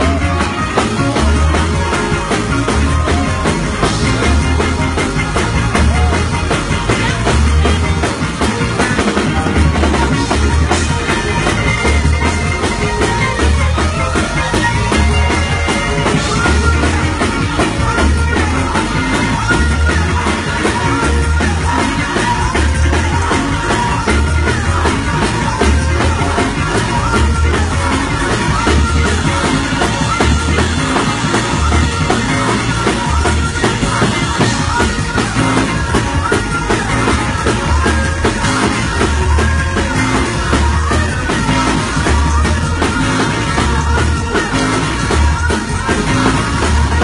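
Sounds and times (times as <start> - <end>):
deep pulsing bass: 0.0 - 47.0
drum kit: 0.0 - 47.0
electric organ: 0.0 - 47.0
gospel band music: 0.0 - 47.0.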